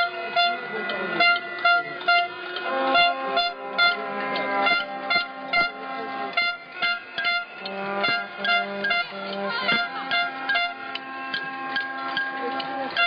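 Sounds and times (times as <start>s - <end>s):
horns and noisemakers tooting: 0.0s - 13.0s.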